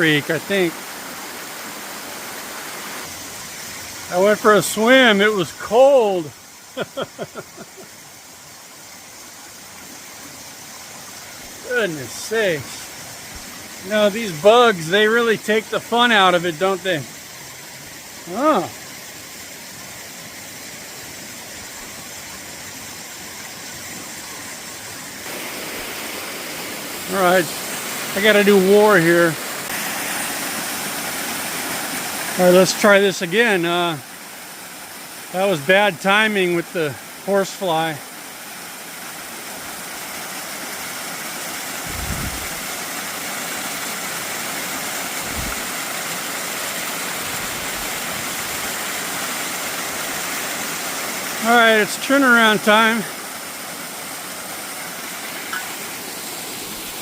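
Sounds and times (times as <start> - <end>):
waterfall and creek rushing: 0.0 - 57.0.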